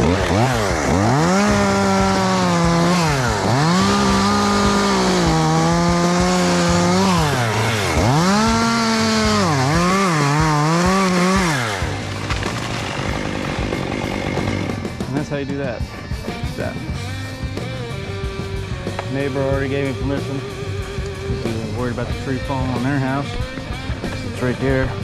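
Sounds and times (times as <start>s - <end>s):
chainsaw cutting through a limb: 0.0s - 25.0s.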